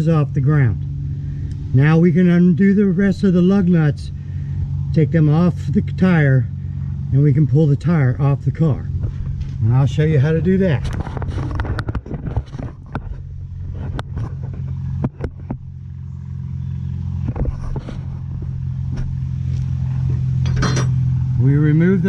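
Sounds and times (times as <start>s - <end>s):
steady low drone: 0.0s - 22.0s.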